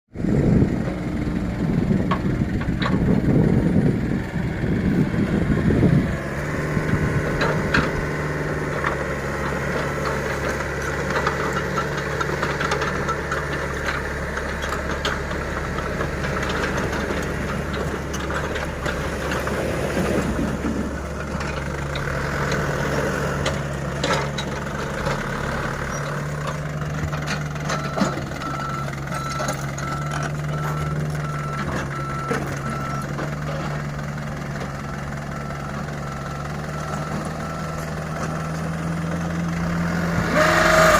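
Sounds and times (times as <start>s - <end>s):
diesel engines running: 0.1s - 40.9s.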